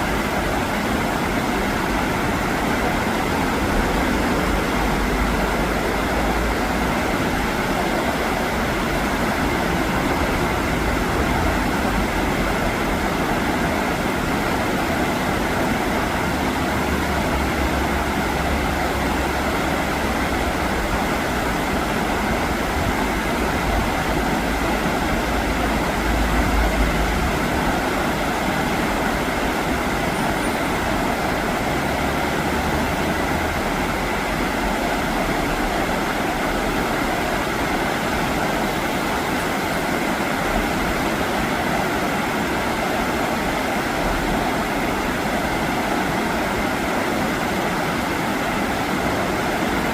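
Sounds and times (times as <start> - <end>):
river current rushing: 0.0 - 49.9.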